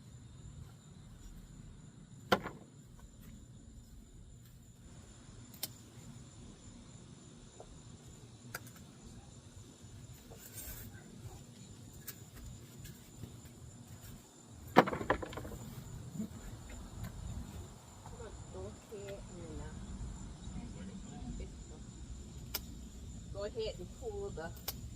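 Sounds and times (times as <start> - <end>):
crickets chirring: 0.0 - 24.9.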